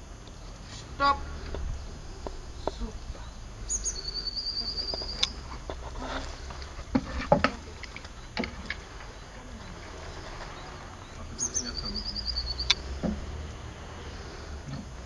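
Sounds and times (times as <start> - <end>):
songbird trill: 0.0 - 15.0.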